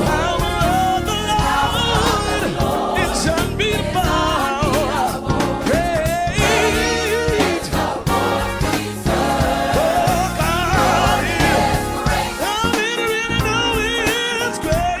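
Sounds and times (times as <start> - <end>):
gospel song with choir: 0.0 - 15.0.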